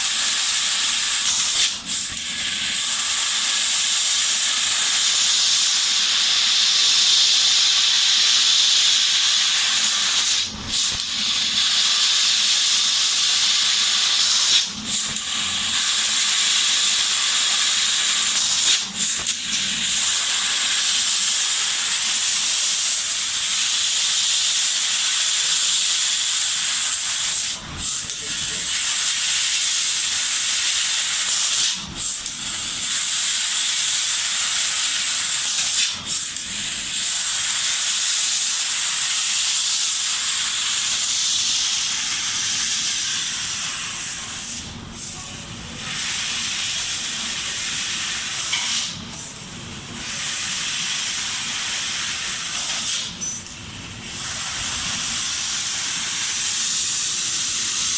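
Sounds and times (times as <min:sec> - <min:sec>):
laser cutter gas jet hissing: 0:00.0 - 0:57.9.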